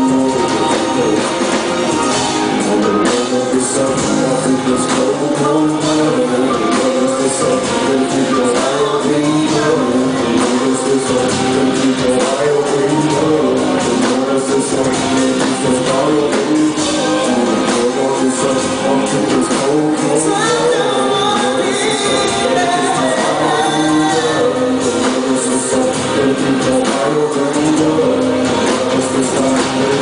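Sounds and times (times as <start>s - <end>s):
electric guitar: 0.0s - 30.0s
live band playing: 0.0s - 30.0s
person singing into microphone: 0.0s - 30.0s.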